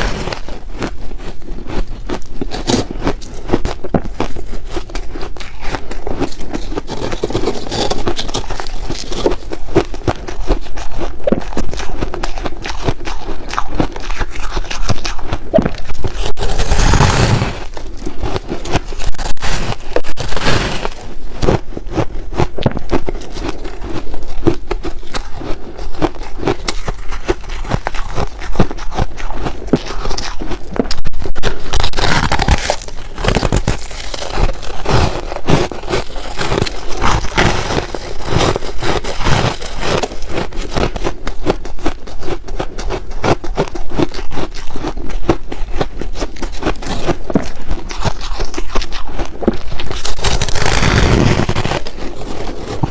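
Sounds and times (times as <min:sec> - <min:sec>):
crunching ice chewing: 0:00.0 - 0:52.9.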